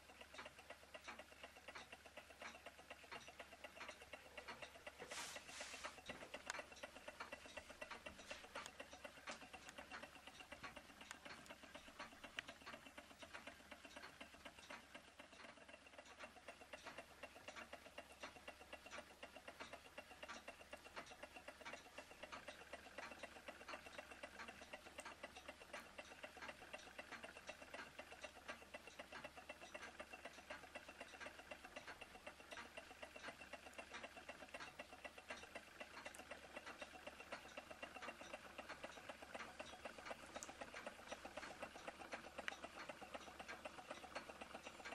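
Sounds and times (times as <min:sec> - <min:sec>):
hot-air engines ticking: 0:00.0 - 0:44.9.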